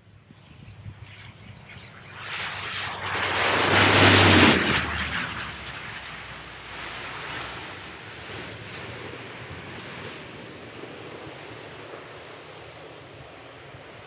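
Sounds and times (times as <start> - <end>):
high engine whine: 0.0 - 13.5
low propeller hum: 0.0 - 14.0
turboprop plane passing: 0.0 - 14.0.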